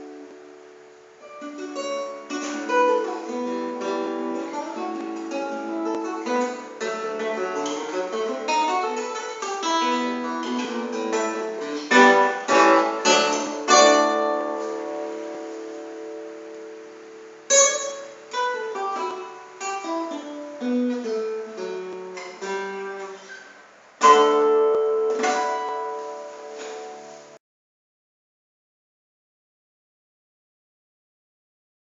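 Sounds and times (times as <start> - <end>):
fingerpicked acoustic guitar: 0.0 - 27.4.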